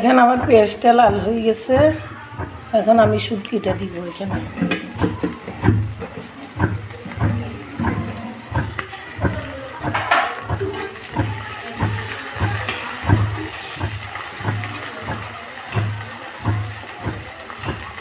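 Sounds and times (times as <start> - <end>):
fish and onions frying in oil: 0.0 - 18.0.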